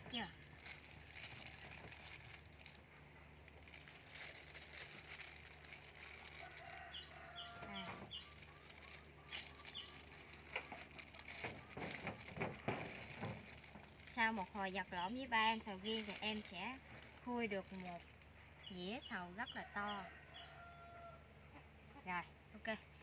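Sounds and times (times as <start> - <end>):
small birds chirping: 0.0 - 4.3, 6.6 - 20.8
low steady hum: 0.0 - 23.0.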